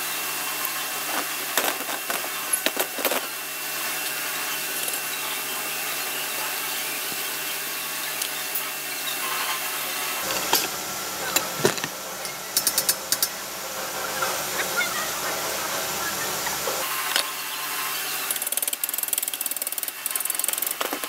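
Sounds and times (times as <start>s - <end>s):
arc welding crackling hiss: 0.0s - 21.0s.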